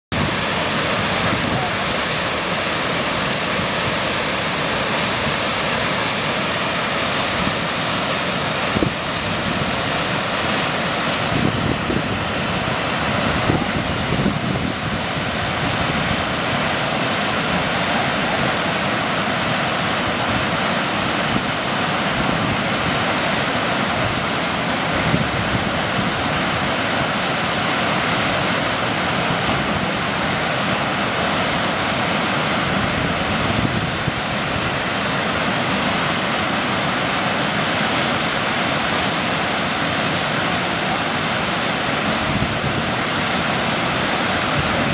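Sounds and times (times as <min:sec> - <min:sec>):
whitewater rushing: 0:00.1 - 0:44.9.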